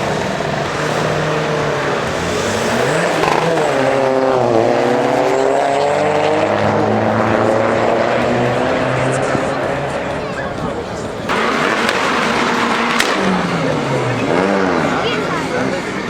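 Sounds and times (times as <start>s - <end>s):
car engine revving: 0.0s - 16.0s
car engines running steadily: 0.0s - 16.0s.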